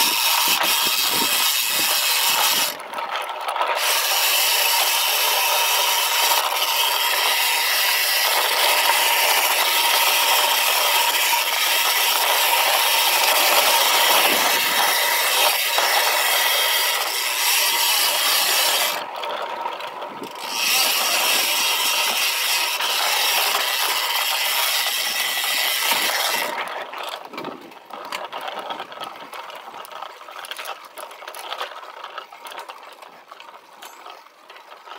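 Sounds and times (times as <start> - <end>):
bicycle freewheel hub buzzing: 0.0 - 34.9.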